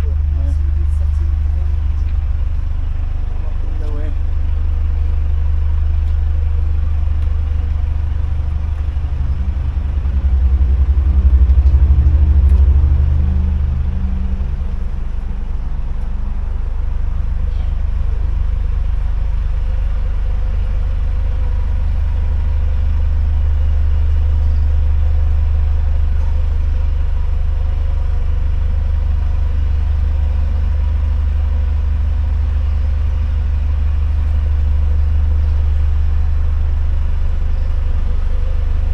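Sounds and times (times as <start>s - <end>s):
diesel engine throbbing: 0.0s - 38.9s.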